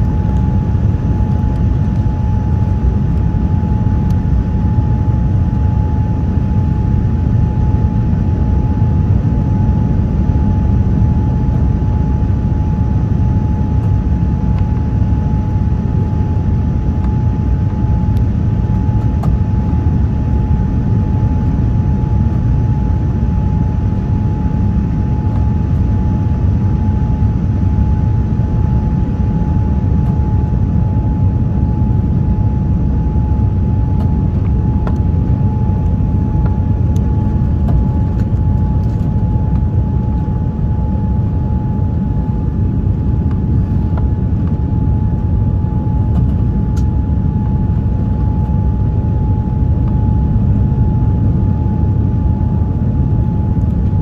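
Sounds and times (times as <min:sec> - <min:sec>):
low rumble of engines and airflow: 0:00.0 - 0:54.0
steady whine: 0:00.0 - 0:54.0.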